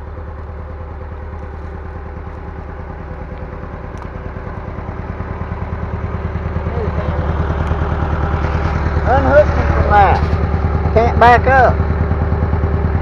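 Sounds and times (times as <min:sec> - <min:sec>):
heavy equipment engine running: 0:00.0 - 0:13.0.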